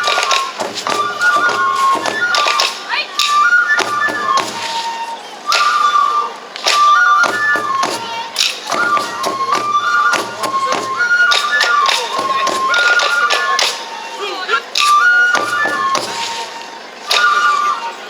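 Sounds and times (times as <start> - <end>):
bamboo flute melody: 0.0 - 18.0.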